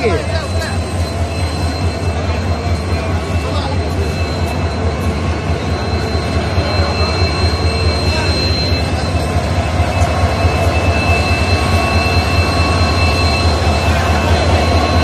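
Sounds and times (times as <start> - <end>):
high whine: 0.0 - 15.0
locomotive engine drone: 0.0 - 15.0.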